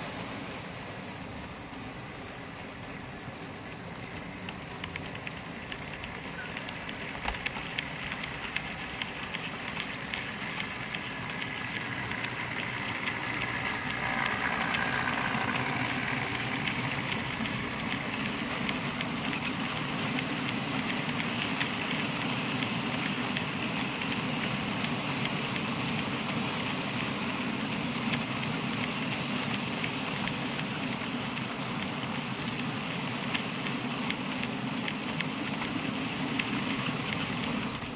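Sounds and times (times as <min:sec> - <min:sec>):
model wagon wheels clattering: 0:04.0 - 0:37.9.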